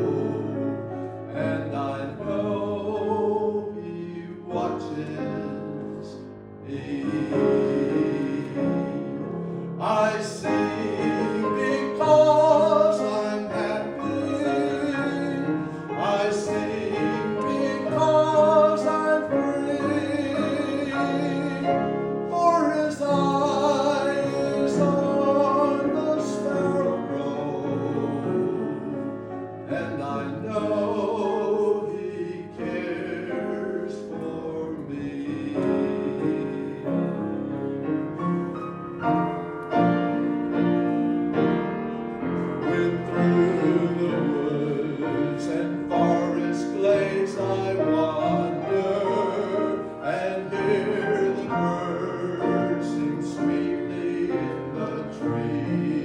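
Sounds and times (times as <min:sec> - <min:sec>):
piano accompaniment: 0:00.0 - 0:56.0.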